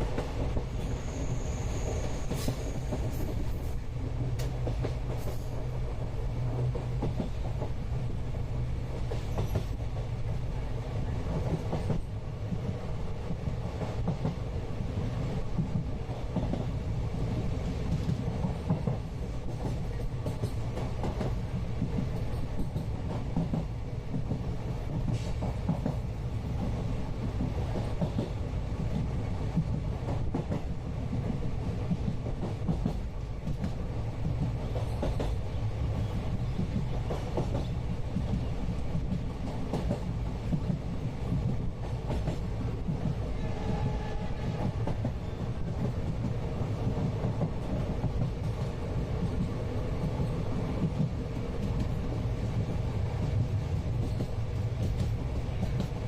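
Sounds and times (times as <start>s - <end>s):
clickety-clack of train wheels: 0.0s - 56.0s
train low rumble: 0.0s - 56.0s.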